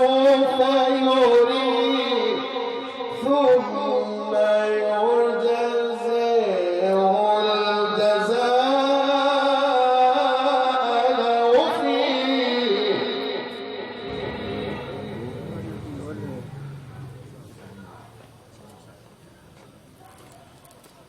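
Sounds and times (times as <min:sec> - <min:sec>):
man chanting: 0:00.0 - 0:18.2.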